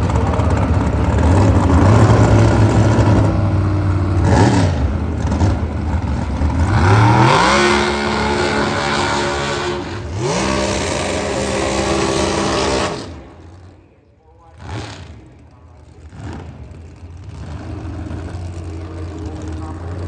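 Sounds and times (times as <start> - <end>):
dragster engines revving: 0.0 - 20.0.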